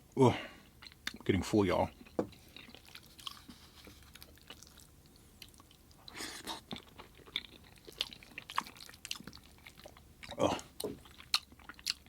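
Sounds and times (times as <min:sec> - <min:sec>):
close chewing mouth sounds: 0:00.6 - 0:01.3, 0:01.9 - 0:12.0.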